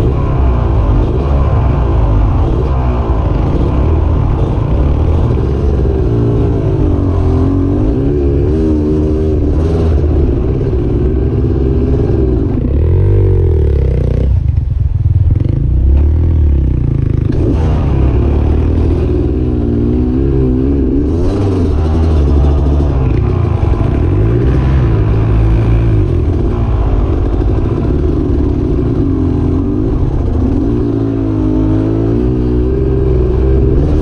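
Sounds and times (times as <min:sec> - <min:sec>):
dirt bike engine revving: 0:00.0 - 0:14.5, 0:15.3 - 0:34.0.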